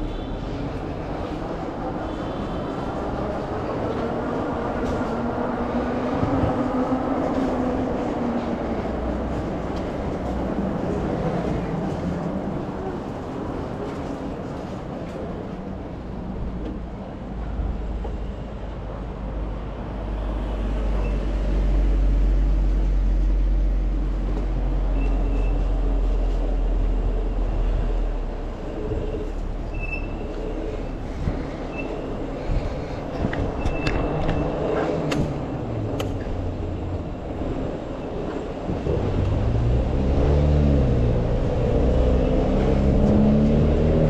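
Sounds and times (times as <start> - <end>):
wind and road rumble: 0.0 - 44.0.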